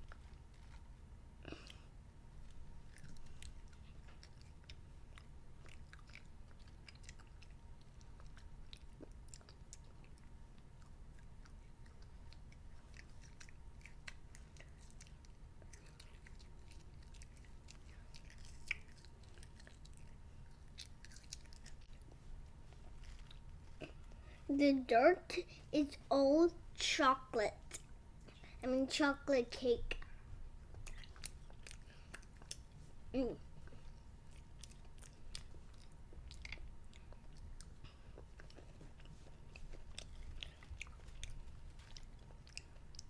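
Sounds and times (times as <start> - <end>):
child chewing candy: 0.0 - 24.6, 29.9 - 43.0
low steady hum: 0.0 - 43.0.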